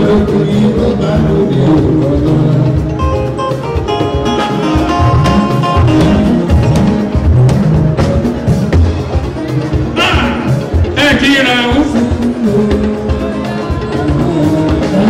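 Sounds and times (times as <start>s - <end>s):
guitar bass and drums music: 0.0s - 15.0s.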